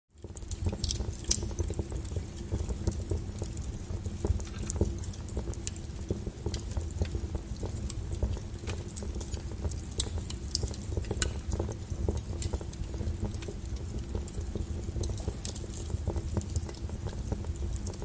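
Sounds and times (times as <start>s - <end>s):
fire crackling and popping: 0.1s - 18.0s
low rumble of fire: 0.1s - 18.0s.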